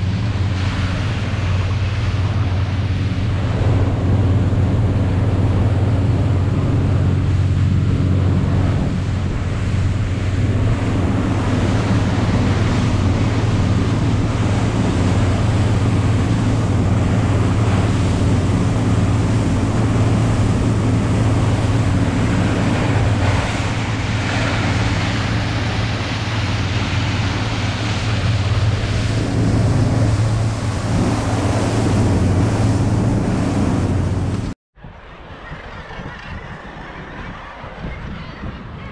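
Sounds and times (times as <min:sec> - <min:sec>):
motorboat engine drone: 0:00.0 - 0:38.9
rush of boat wake: 0:00.0 - 0:38.9
wind buffeting microphone: 0:00.0 - 0:38.9.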